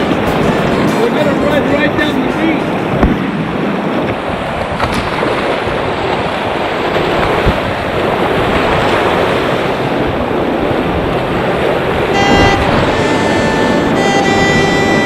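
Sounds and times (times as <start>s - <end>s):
whitewater rapids rushing: 0.0s - 15.0s
wind buffeting microphone: 0.0s - 15.0s.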